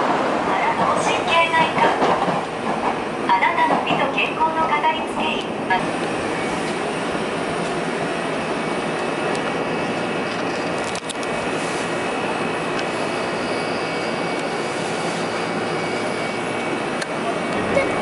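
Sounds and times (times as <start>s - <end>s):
train wheels and motors running: 0.0s - 18.0s.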